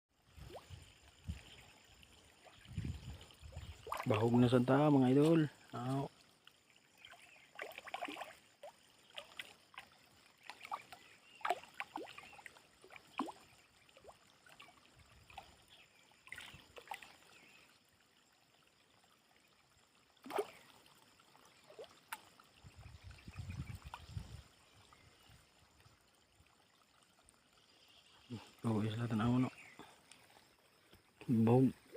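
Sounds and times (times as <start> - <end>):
water splashes and trickles: 0.1 - 31.9.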